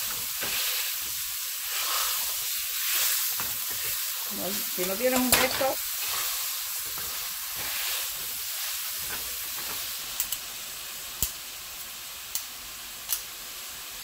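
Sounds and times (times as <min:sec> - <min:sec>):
sausage sizzling in oil: 0:00.0 - 0:14.0.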